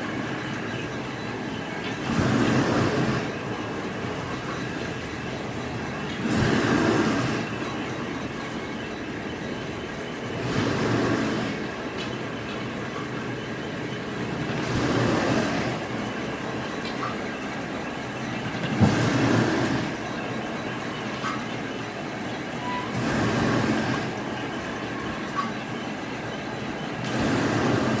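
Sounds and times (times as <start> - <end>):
factory machinery running: 0.0 - 28.0.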